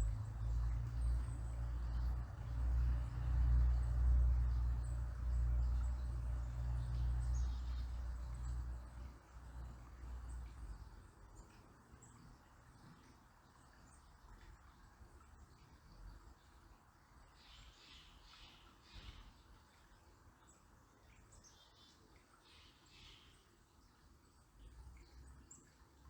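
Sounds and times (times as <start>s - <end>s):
flowing water hiss: 0.0s - 26.0s.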